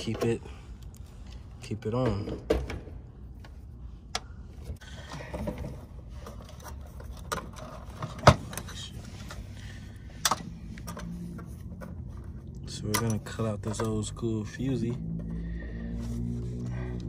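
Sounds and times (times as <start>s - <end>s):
wires and tools clicking and rattling: 3.3s - 17.0s.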